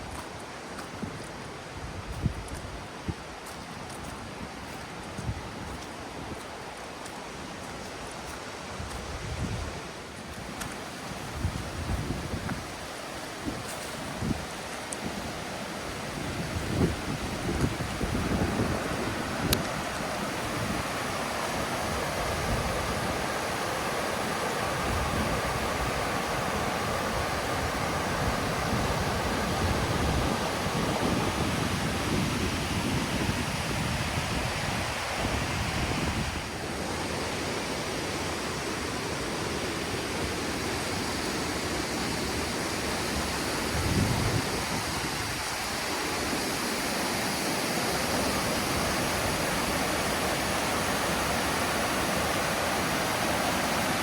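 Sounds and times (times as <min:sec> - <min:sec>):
waterfall rushing: 0:10.0 - 0:54.0.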